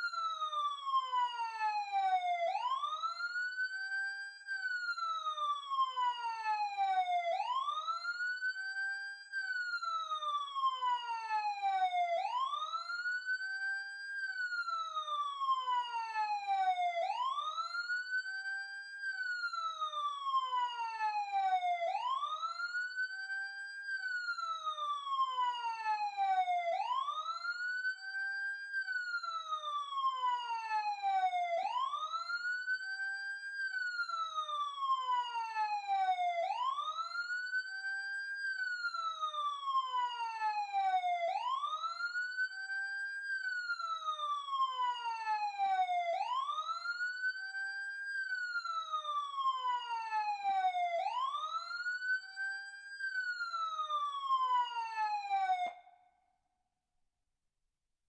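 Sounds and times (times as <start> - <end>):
emergency siren wailing: 0.0 - 56.0.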